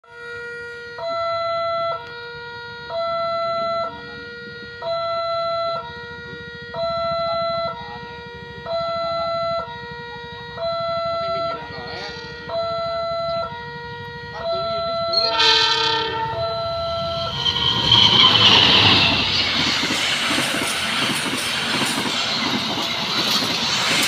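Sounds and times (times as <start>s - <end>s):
level crossing two-tone alarm: 0.1s - 24.0s.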